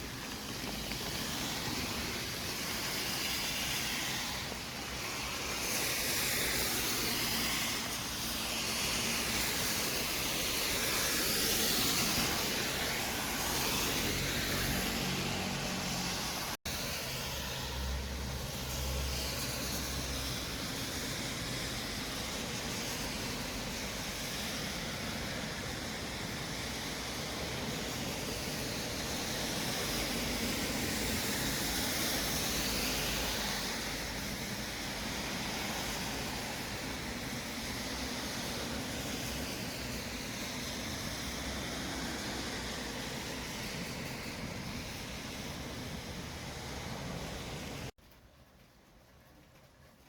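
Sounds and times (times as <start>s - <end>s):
car tyres hissing: 0.0s - 48.0s.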